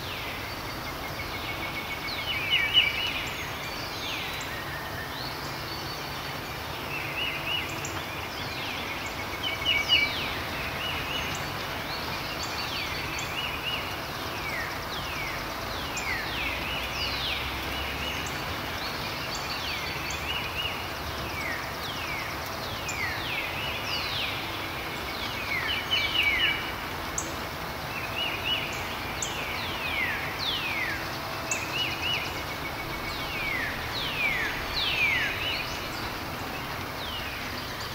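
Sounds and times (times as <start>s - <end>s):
birds singing: 0.0s - 37.9s
steady background hiss: 0.0s - 37.9s.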